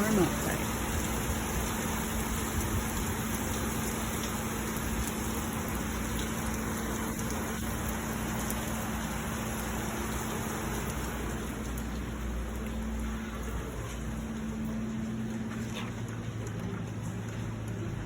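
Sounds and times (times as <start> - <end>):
rain hissing: 0.0 - 18.0
wet road noise: 0.0 - 18.0.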